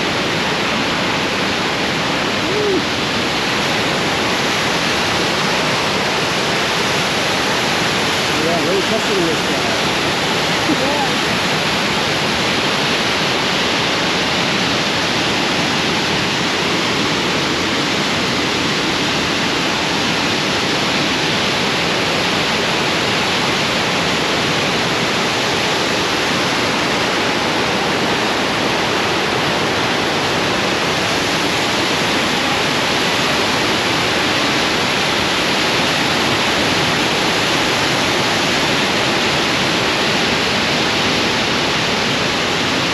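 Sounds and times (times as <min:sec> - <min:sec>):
waterfall rushing water: 0:00.0 - 0:42.9.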